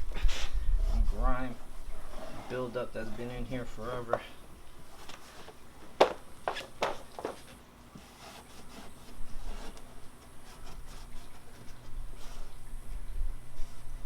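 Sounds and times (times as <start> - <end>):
hand scrubbing car bumper: 0.0 - 12.6.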